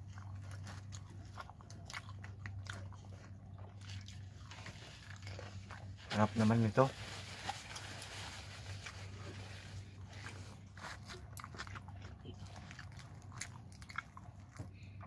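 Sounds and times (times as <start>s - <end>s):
spring rolls crunching: 0.0s - 15.0s.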